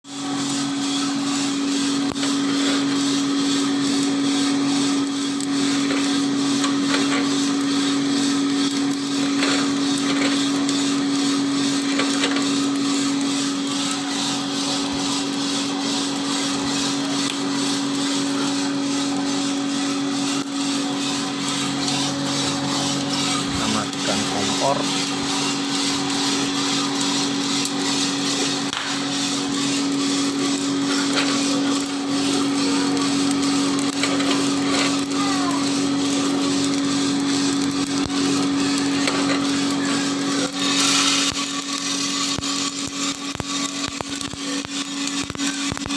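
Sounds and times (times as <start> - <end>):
roasting machine motor hum: 0.0 - 45.9
constant whirring: 0.1 - 45.9.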